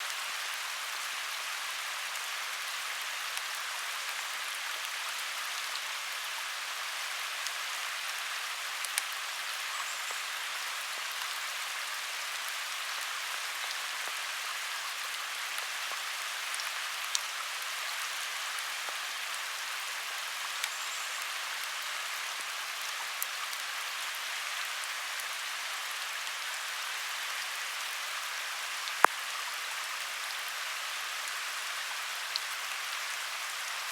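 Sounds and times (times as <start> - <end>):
steady rain hissing: 0.0 - 33.9.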